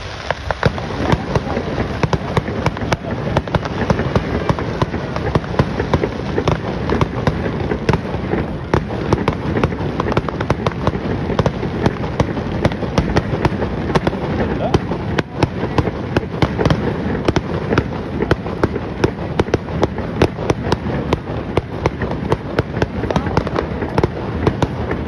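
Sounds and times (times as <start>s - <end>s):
fireworks bangs and pops: 0.0s - 25.0s
fireworks crackling hiss: 0.0s - 25.0s.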